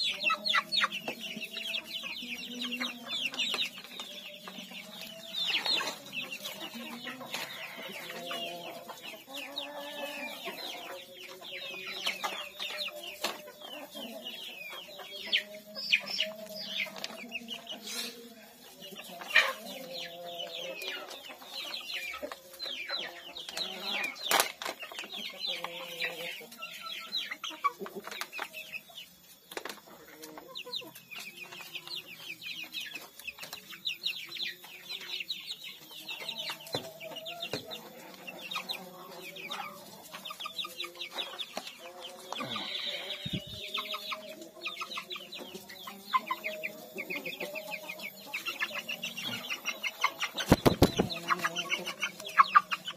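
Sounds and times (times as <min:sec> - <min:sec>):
chickens clucking and peeping: 0:00.0 - 0:52.9.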